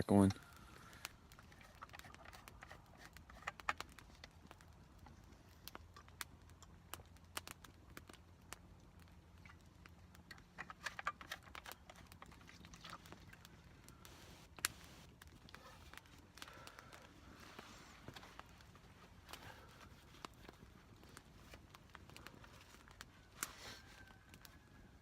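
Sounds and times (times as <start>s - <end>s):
campfire crackling and snapping: 0.0s - 25.0s.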